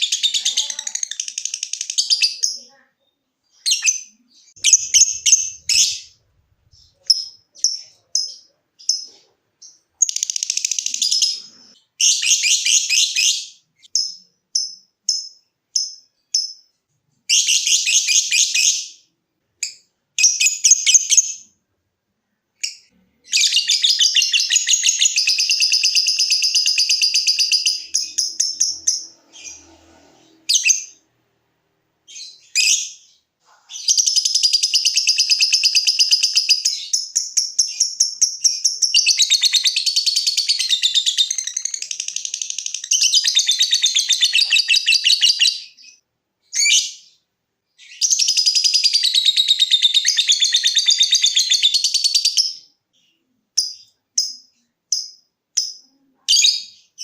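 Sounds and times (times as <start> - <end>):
lovebird chirping and trilling: 0.0 - 21.5, 22.6 - 31.0, 32.0 - 47.2, 47.8 - 57.0.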